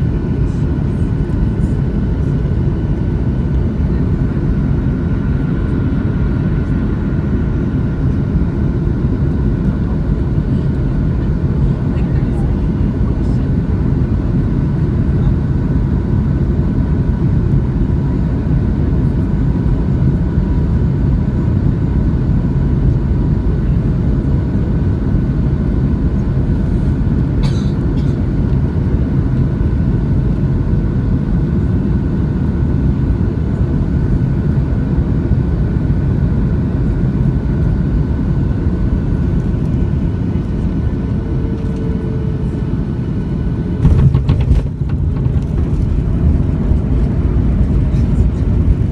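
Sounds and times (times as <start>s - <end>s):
airplane engines rumbling: 0.0s - 48.9s.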